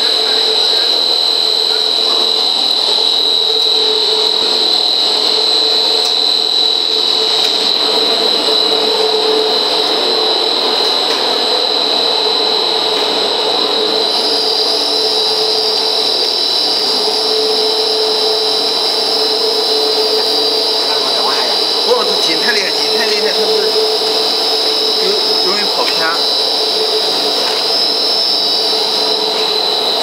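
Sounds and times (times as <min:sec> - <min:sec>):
machine drone with high whine: 0:00.0 - 0:30.0.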